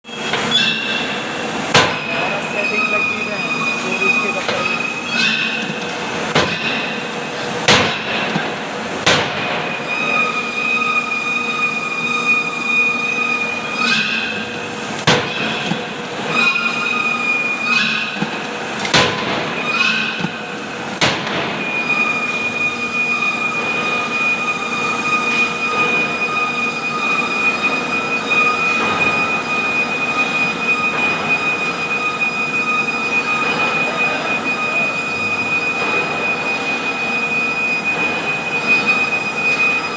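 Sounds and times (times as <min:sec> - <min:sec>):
shop machinery noise: 0:00.0 - 0:39.9.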